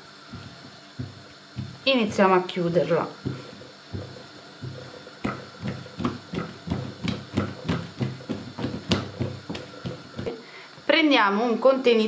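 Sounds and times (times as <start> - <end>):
dough thumping on steel surface: 0.3 - 10.3.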